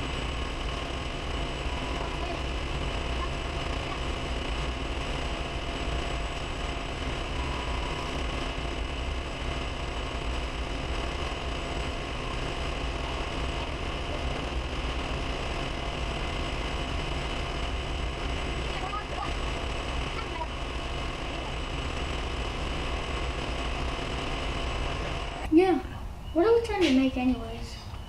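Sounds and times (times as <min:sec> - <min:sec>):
metal lathe running: 0:00.0 - 0:25.5.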